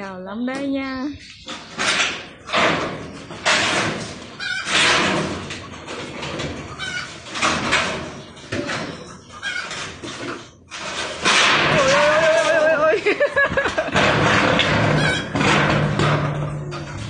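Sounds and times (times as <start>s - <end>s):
metal roofing sheet scraping: 1.2s - 17.0s.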